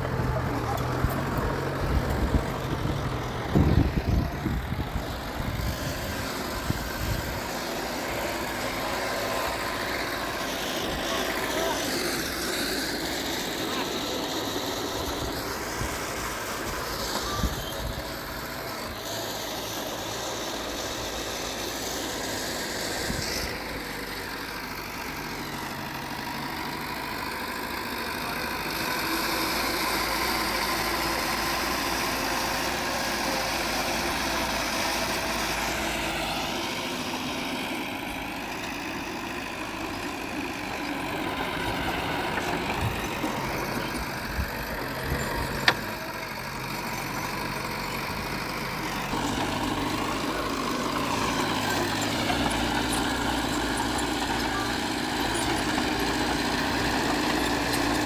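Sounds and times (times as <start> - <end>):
diesel engines of earthmoving machinery: 0.0 - 58.0.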